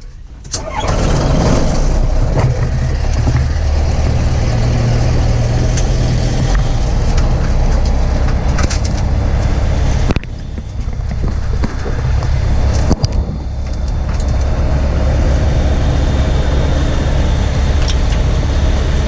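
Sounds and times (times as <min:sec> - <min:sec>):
light aircraft engine running: 0:00.0 - 0:19.0.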